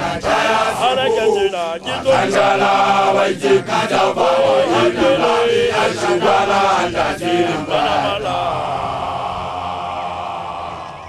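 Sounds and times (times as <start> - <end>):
men chanting a song: 0.0 - 10.8.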